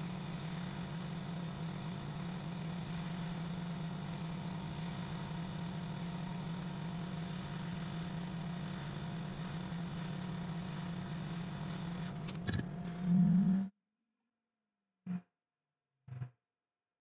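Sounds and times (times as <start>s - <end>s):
hot air station blowing: 0.0s - 13.6s.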